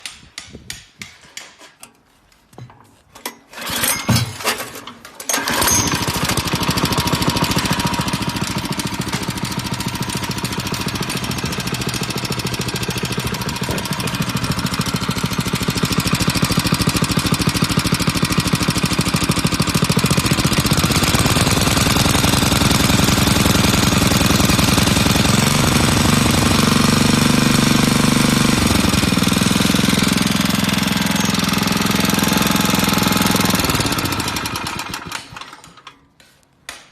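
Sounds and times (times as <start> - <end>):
pump engine starting and running: 5.2 - 35.9.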